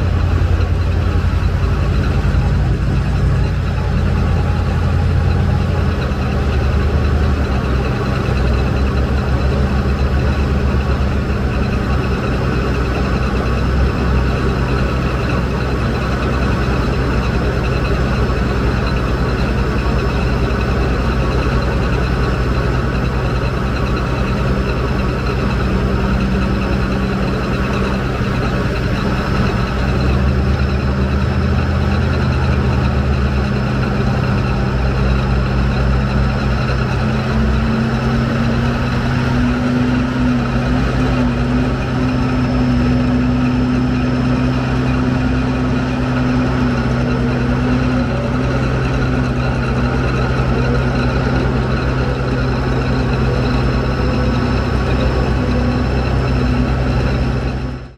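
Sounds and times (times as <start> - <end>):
drill rig running: 0.0 - 57.9.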